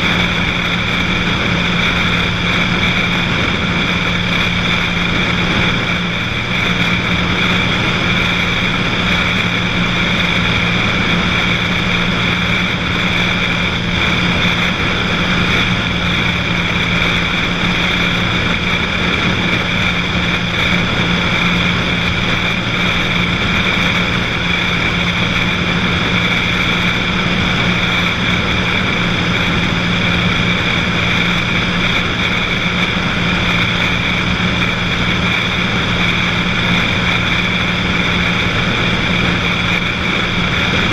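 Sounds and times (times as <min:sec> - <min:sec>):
light aircraft engine droning: 0:00.0 - 0:40.9.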